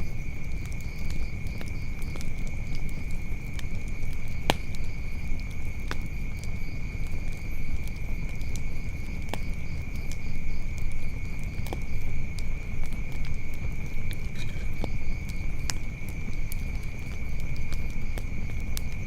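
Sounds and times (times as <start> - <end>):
insects droning: 0.0 - 19.0
wood fire crackling: 0.0 - 19.0.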